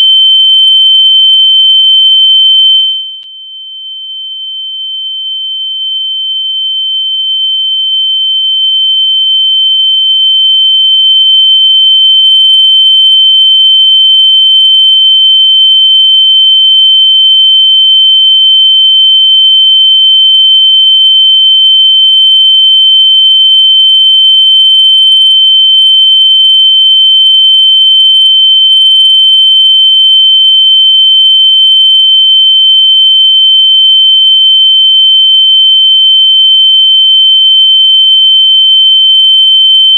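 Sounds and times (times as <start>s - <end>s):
high-pitched sine tone: 0.0s - 39.9s.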